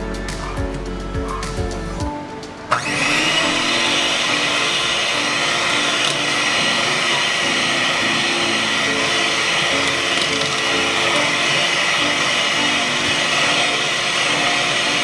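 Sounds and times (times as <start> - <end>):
kitchen appliance motor running: 2.7 - 15.0.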